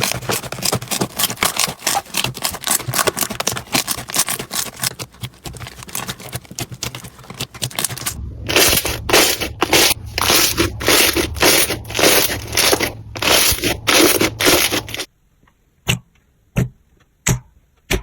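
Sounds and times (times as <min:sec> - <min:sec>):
slime squishing crunch: 0:00.0 - 0:15.1.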